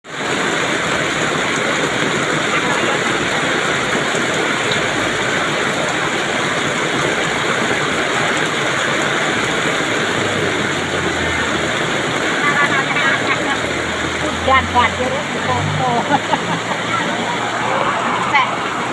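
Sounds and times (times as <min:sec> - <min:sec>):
heavy rain: 0:00.0 - 0:18.9.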